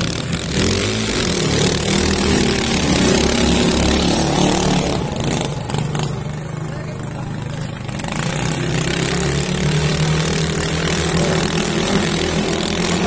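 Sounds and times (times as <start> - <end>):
boat engines running at speed: 0.0 - 13.0.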